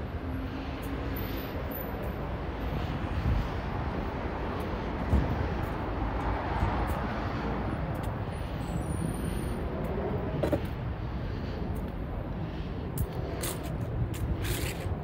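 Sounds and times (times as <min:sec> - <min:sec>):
city road traffic rumble: 0:00.0 - 0:15.0.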